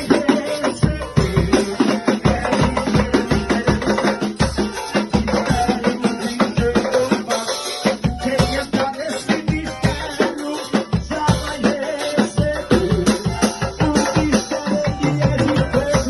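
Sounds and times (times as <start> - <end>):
fast driving drum beat: 0.0 - 16.0
live band gospel music: 0.0 - 16.0.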